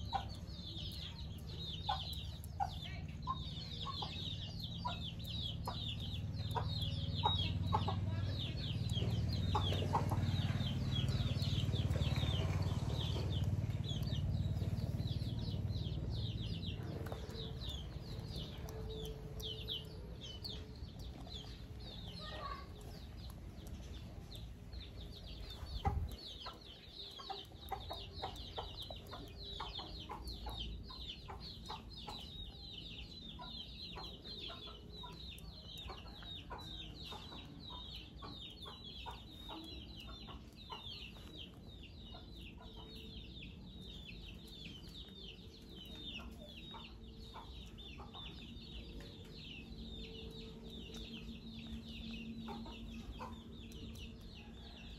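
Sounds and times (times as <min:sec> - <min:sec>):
chickens peeping: 0:00.0 - 0:54.9.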